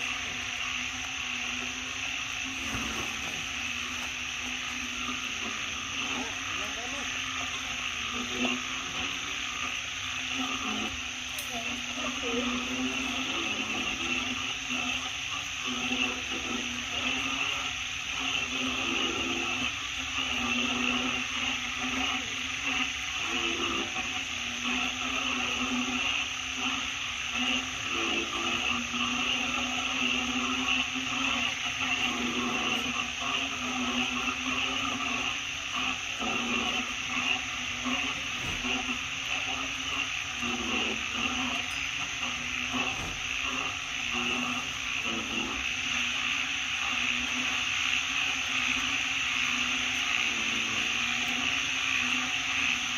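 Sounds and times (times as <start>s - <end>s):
high insect drone: 0.0s - 52.9s
low droning hum: 0.0s - 52.9s.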